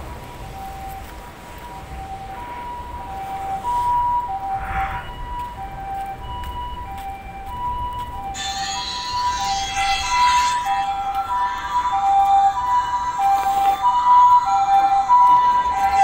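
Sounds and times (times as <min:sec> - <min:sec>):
two-tone ambulance siren: 0:00.0 - 0:16.0.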